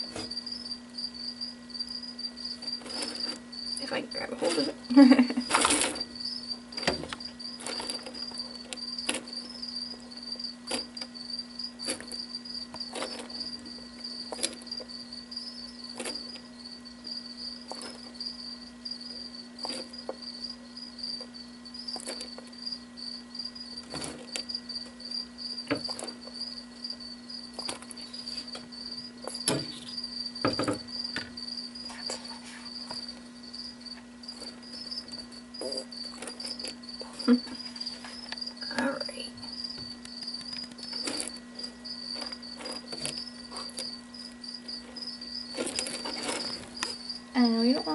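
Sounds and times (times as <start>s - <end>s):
cricket chirping: 0.0s - 47.9s
low steady hum: 0.0s - 47.9s.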